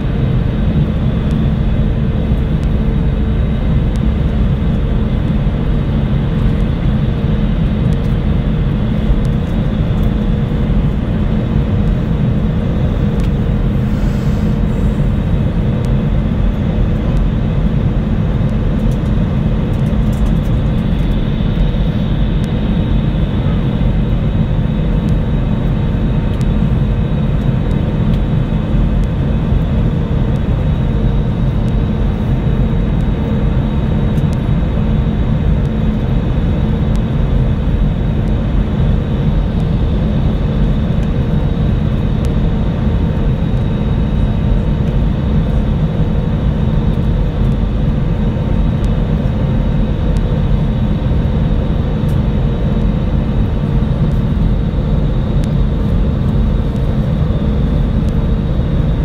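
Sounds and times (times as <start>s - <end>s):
faint steady hum: 0.0s - 59.0s
jet engines: 0.0s - 59.0s.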